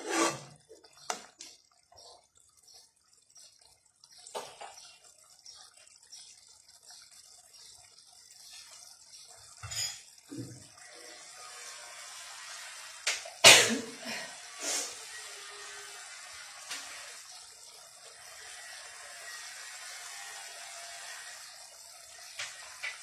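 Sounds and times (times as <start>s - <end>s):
curry simmering and bubbling: 0.0s - 13.4s, 14.3s - 23.0s.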